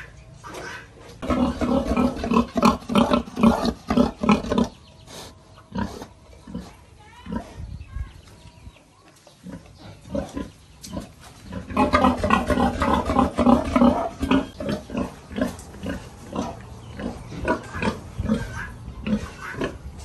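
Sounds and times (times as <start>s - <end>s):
pigs grunting: 0.0s - 7.7s, 9.4s - 20.0s.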